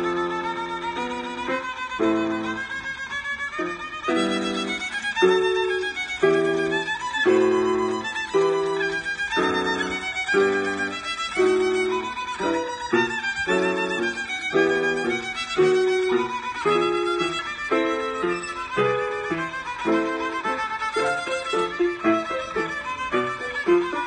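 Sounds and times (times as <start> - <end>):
child playing violin: 0.0 - 24.0
digital piano accompaniment: 0.0 - 24.0.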